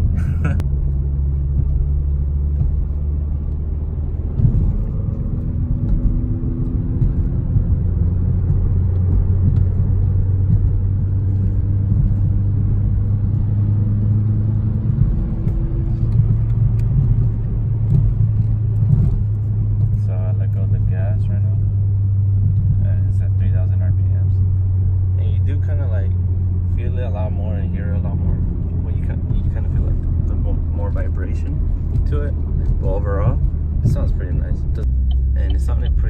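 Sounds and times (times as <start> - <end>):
car exhaust deep rumble: 0.0 - 36.0.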